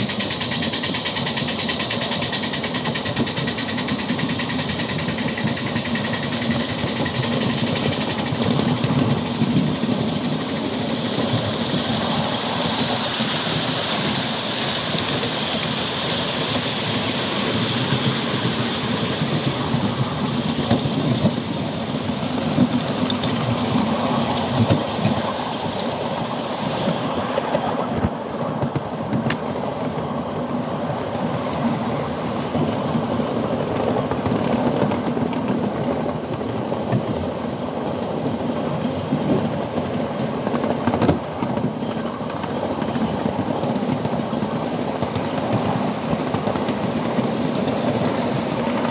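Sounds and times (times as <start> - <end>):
miniature steam train hissing: 0.0 - 48.9
train cars rolling on track: 0.0 - 48.9.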